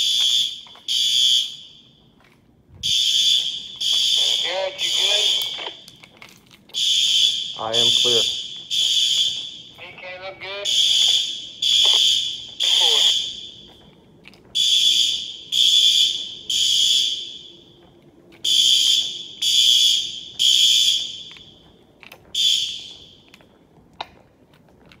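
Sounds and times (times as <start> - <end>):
fire alarm horn blasts: 0.0 - 2.1, 2.8 - 5.9, 6.8 - 13.8, 14.6 - 17.8, 18.4 - 23.3.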